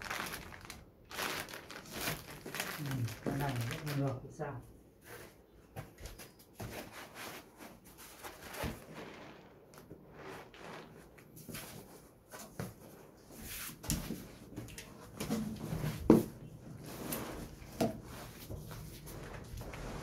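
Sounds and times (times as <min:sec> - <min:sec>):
cardboard and foam rustling: 0:00.0 - 0:04.2, 0:05.0 - 0:20.0.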